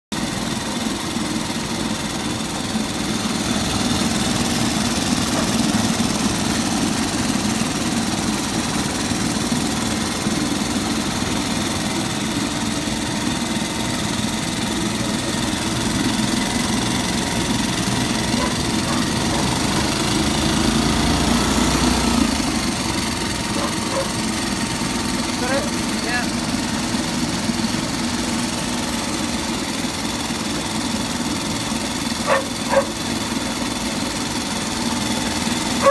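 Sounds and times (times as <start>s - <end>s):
outboard motor running: 0.1s - 35.9s
propeller churning water: 0.1s - 35.9s.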